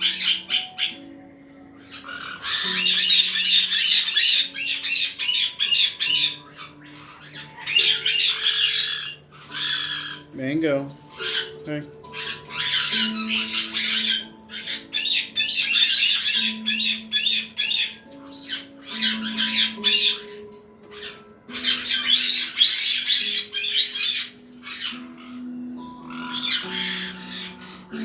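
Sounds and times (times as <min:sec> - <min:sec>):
parrot whistled calls: 0:00.0 - 0:10.4, 0:11.2 - 0:28.0
parrots screeching: 0:00.0 - 0:28.0
soft background music: 0:00.0 - 0:28.0.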